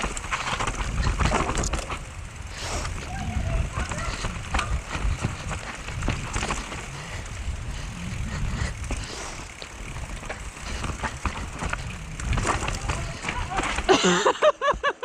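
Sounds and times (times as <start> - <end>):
bike tyres rolling and skidding: 0.0 - 14.8
bike rattling and knocking: 0.0 - 15.0.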